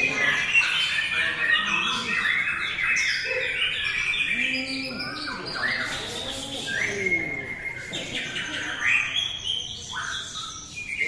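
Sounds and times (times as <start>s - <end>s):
songbirds whistling and chattering: 0.0s - 11.0s.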